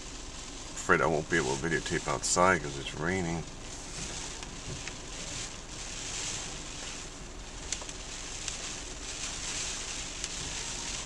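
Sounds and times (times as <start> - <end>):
heavy rain and wind on a car: 0.0 - 11.0.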